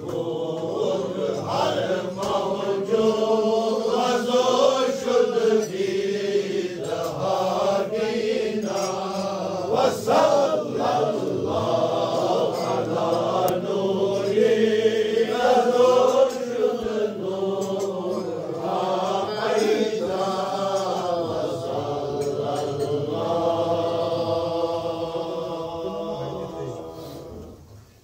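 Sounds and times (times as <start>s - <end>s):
men chanting together: 0.0s - 27.6s.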